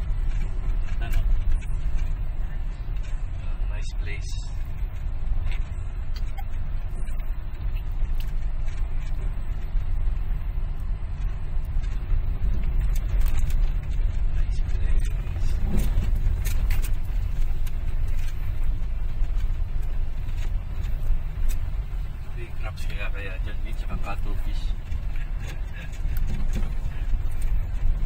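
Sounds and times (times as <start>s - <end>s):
tyres rumbling on gravel: 0.0s - 28.0s
clicks and rattles: 2.9s - 28.0s.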